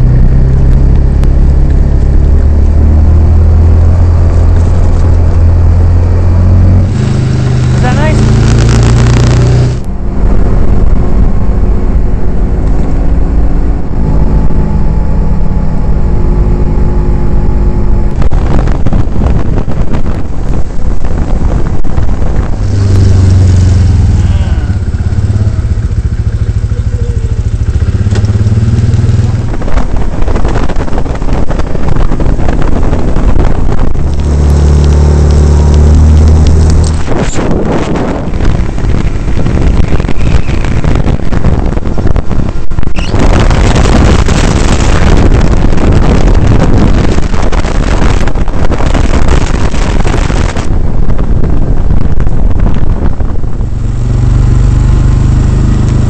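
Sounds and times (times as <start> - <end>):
knocks and buffeting: 0.0 - 56.0
quad bike engine: 0.0 - 56.0.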